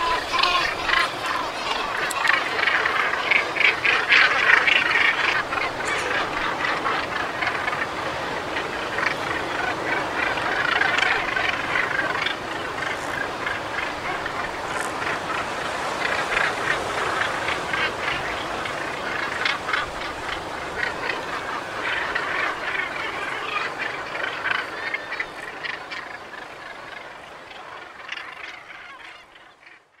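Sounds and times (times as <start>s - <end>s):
flock of birds calling: 0.0s - 30.0s.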